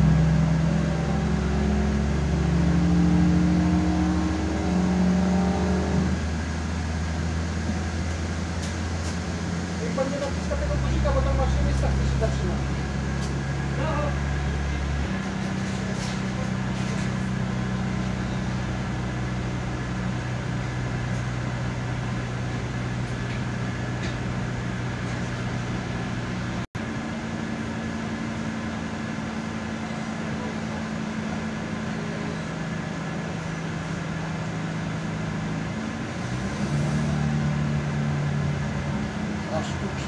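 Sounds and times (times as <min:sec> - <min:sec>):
diesel railcar engine drone: 0:00.0 - 0:40.0
train running noise: 0:00.0 - 0:40.0.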